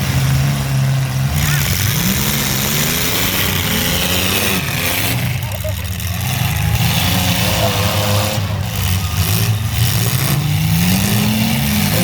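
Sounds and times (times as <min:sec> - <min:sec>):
truck engines racing: 0:00.0 - 0:12.0.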